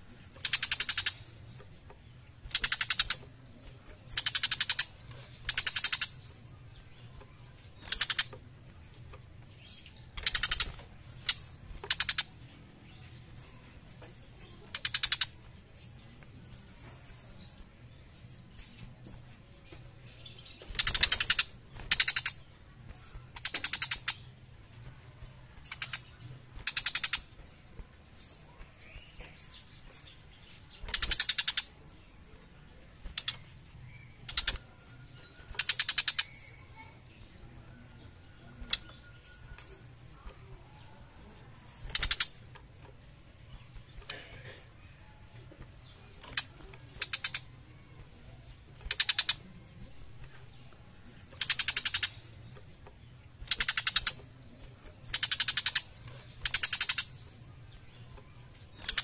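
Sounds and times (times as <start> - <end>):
bird rattling chatter calls: 0.1 - 1.7, 2.4 - 9.0, 9.6 - 18.9, 20.2 - 32.2, 33.0 - 52.6, 53.2 - 59.0.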